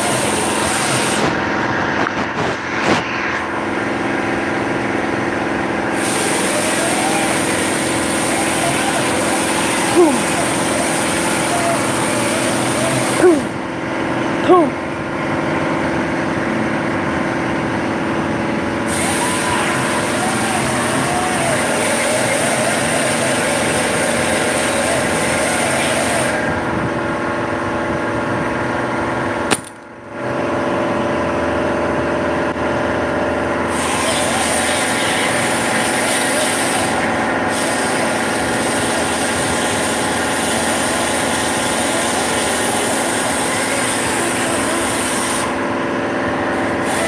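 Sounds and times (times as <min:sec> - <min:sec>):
truck engine idling: 0:00.0 - 0:47.0.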